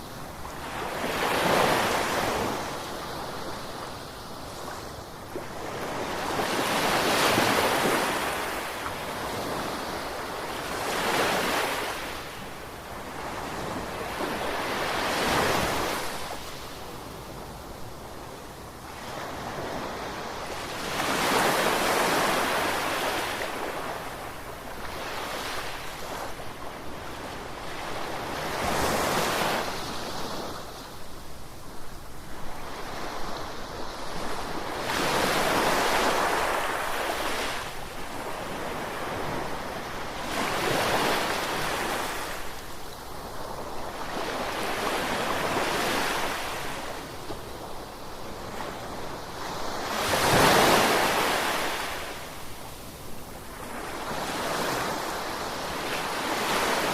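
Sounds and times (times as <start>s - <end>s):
ocean waves breaking on shore: 0.0s - 56.9s.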